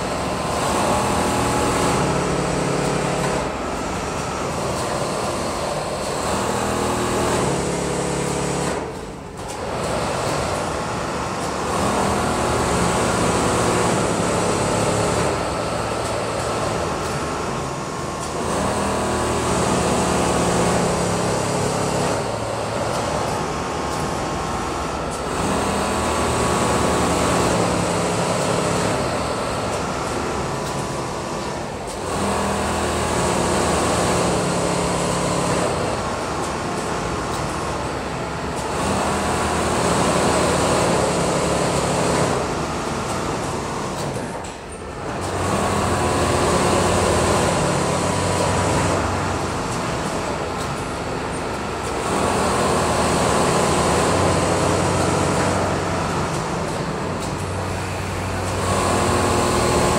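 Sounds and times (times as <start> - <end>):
sewing machines stitching: 0.0 - 59.9.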